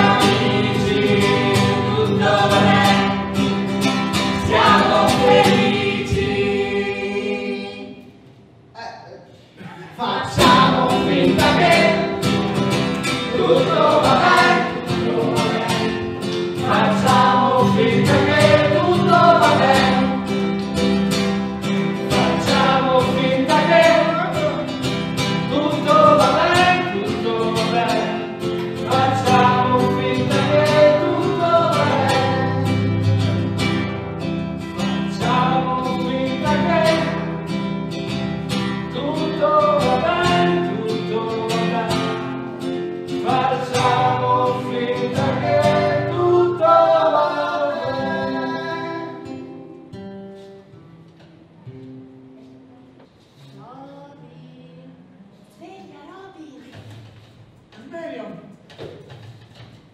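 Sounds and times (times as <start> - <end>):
acoustic guitar strumming: 0.0 - 8.1, 9.8 - 53.6.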